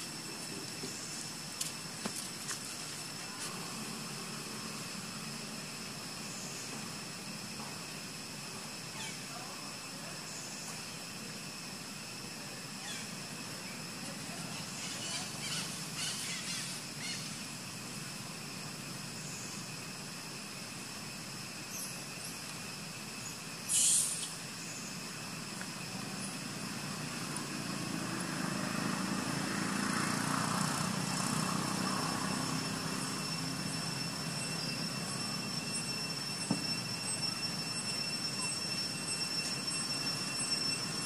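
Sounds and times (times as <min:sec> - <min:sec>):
thin steady high tones: 0:00.0 - 0:41.0.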